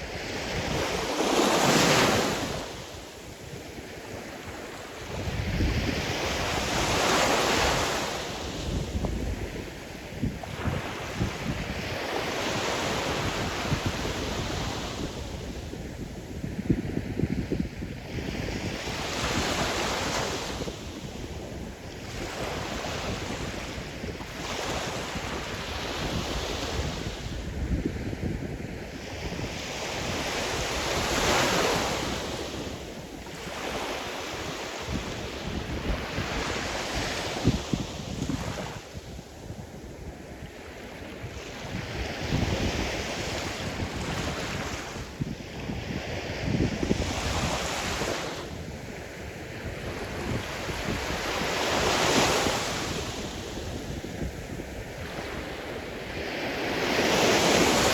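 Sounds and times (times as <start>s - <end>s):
waves breaking and washing in: 0.0s - 57.9s
wind buffeting microphone: 0.0s - 57.9s.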